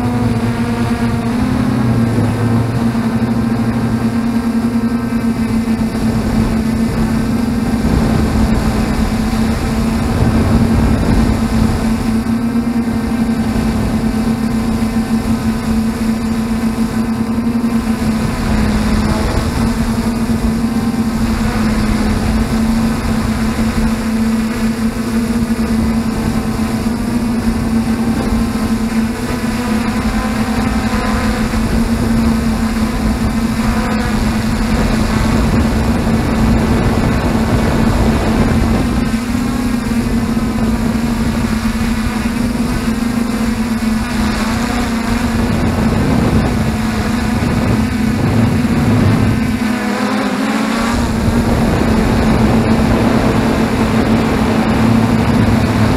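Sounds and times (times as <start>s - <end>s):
quadcopter motors humming: 0.0s - 55.9s.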